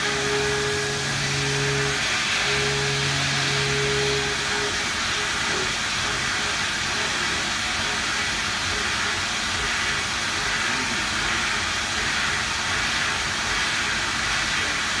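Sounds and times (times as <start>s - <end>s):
milling machine cutting hiss: 0.0s - 14.8s.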